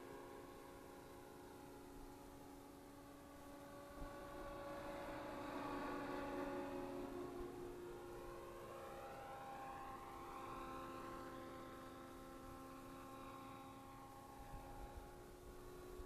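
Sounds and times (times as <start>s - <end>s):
rc helicopter motor and rotor hum: 0.0s - 16.0s.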